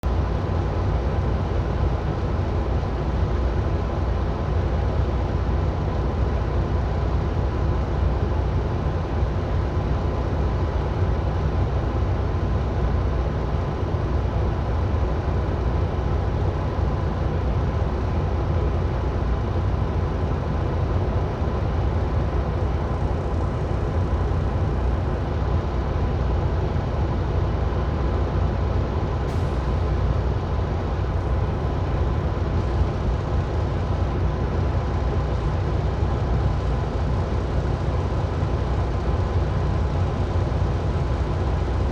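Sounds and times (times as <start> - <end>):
heavy traffic rumble: 0.0 - 41.9.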